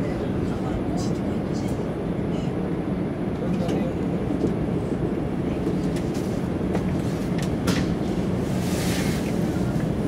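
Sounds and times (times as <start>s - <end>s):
train running gear rumble: 0.0s - 10.0s.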